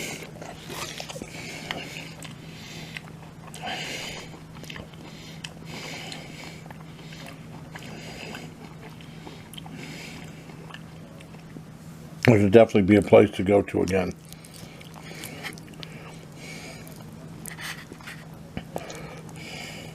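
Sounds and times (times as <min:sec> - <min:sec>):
person chewing food: 0:00.0 - 0:12.3, 0:14.2 - 0:19.9
steady low hum: 0:00.0 - 0:19.9.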